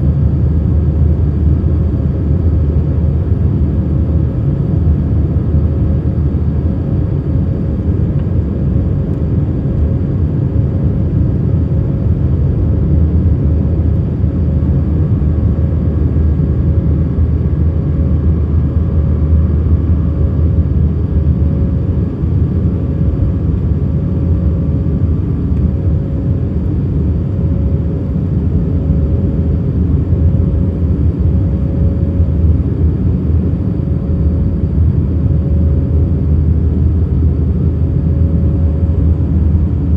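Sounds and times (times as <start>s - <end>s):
aircraft engine and airflow drone: 0.0s - 39.9s.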